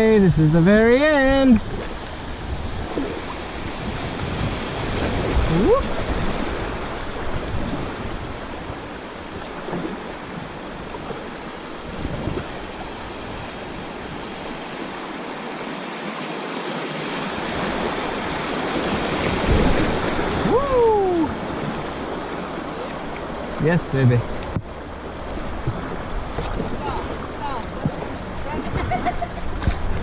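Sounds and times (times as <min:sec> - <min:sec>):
river water rushing: 0:00.0 - 0:30.0
faint water splashes: 0:01.0 - 0:30.0.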